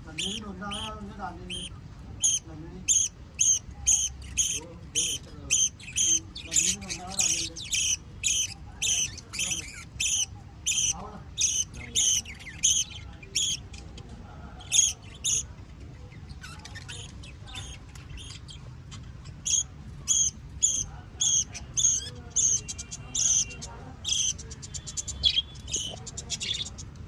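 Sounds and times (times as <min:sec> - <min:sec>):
birds calling shrilly: 0:00.0 - 0:13.6, 0:14.6 - 0:15.5, 0:16.1 - 0:26.9.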